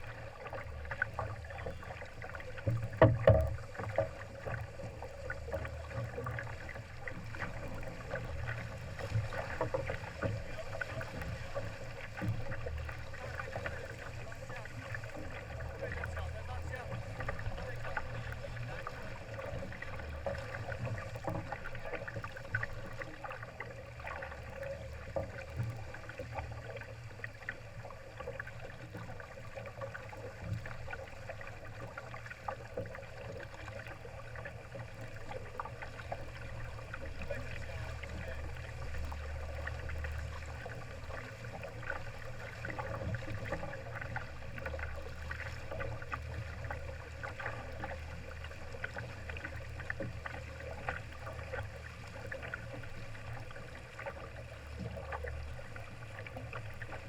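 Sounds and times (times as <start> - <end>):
small water splashes: 0.0 - 57.0
water rushing along boat hull: 0.0 - 57.0.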